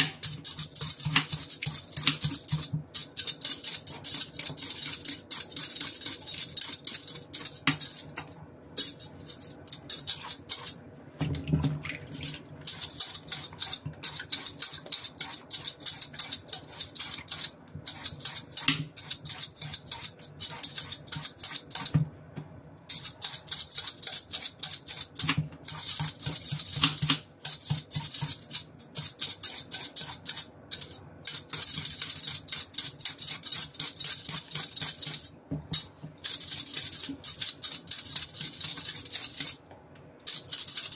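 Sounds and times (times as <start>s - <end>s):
peeler scraping cucumber: 0.0s - 8.3s, 9.4s - 10.8s, 12.6s - 21.9s, 22.9s - 35.3s, 36.2s - 39.6s, 40.2s - 40.9s.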